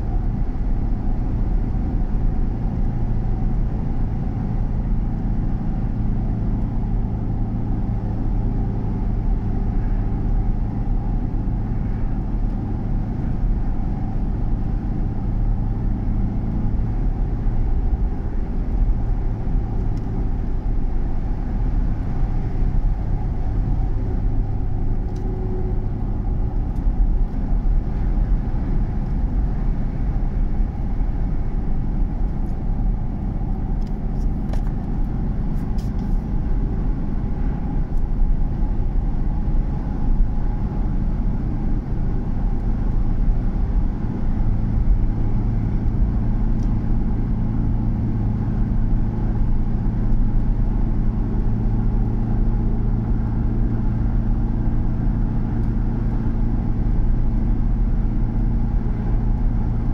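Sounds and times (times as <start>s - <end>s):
engine hum: 0.0s - 59.9s.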